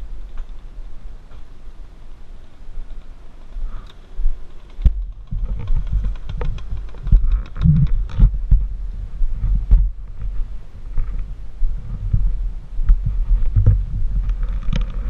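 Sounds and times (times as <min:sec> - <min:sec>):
muffled low rumble: 0:00.0 - 0:15.0.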